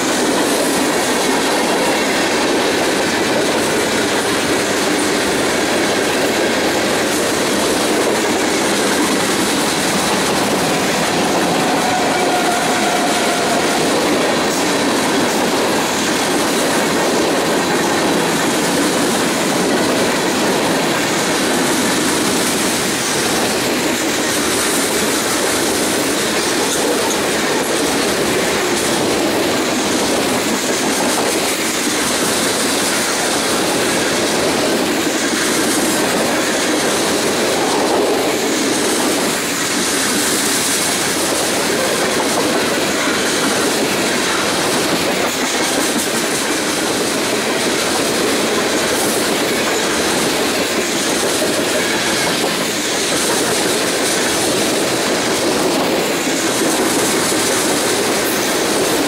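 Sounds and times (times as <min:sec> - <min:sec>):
freight train rolling past: 0:00.0 - 0:59.0
train cars clanking: 0:00.0 - 0:59.0.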